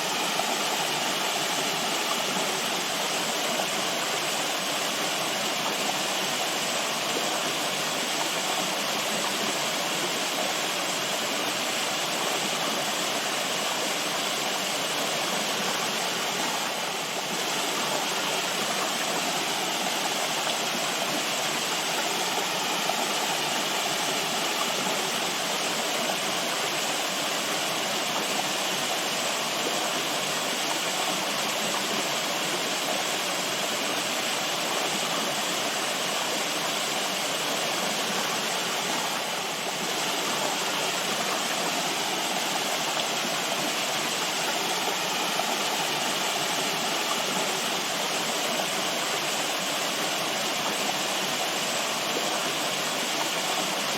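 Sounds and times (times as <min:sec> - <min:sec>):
water rushing: 0:00.0 - 0:53.9.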